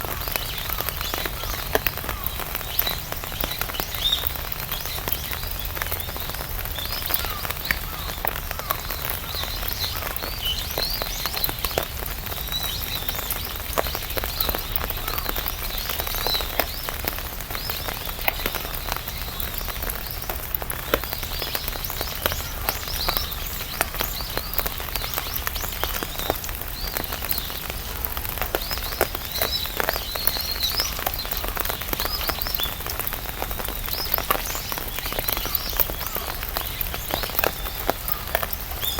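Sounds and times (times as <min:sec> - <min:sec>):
rain pattering on umbrella: 0:00.0 - 0:38.9.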